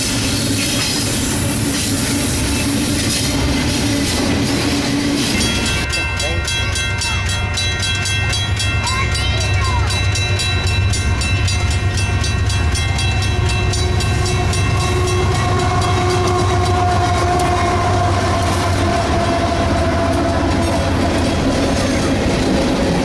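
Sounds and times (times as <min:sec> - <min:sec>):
train rumbling: 0:00.0 - 0:23.0
wheels clacking over rail joints: 0:00.0 - 0:23.0.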